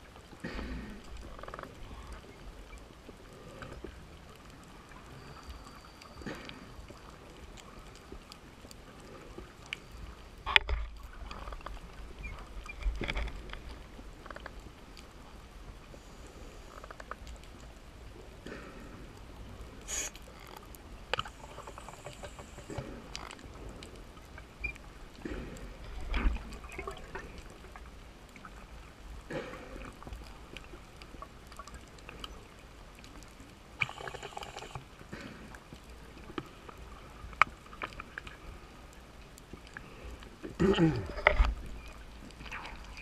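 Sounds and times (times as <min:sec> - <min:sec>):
underwater bubbling and gurgling: 0:00.0 - 0:43.0.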